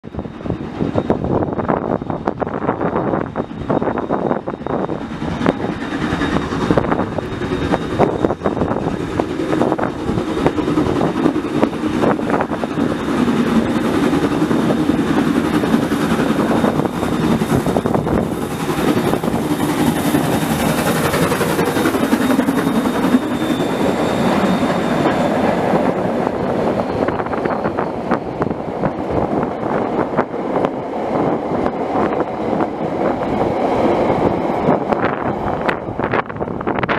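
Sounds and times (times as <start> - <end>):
steam train rushing past: 0.0 - 36.9.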